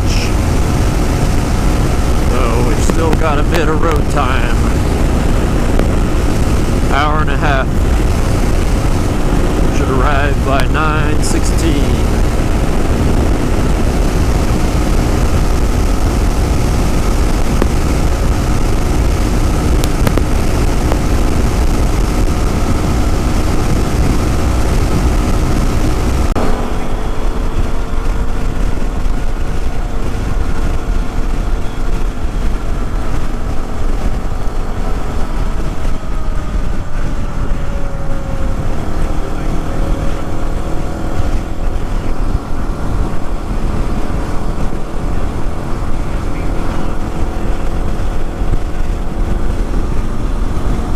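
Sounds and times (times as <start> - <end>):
motorcycle engine cruising: 0.0 - 50.9
wind rumble on microphone: 0.0 - 50.9.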